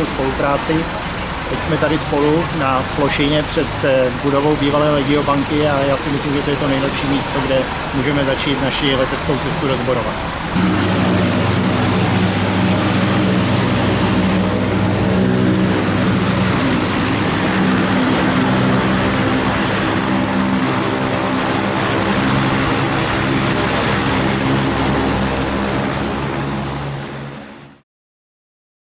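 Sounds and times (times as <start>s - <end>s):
propeller aircraft engine drone: 0.0s - 27.8s.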